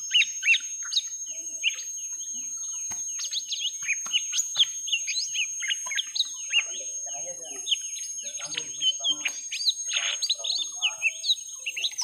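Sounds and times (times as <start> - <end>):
birds whistling and chirping: 0.0 - 12.0.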